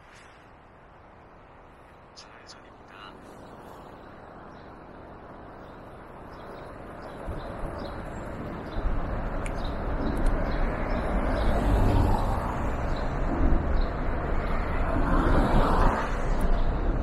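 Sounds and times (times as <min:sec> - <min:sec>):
street noise: 0:00.0 - 0:17.0
wind rumble on microphone: 0:00.0 - 0:17.0.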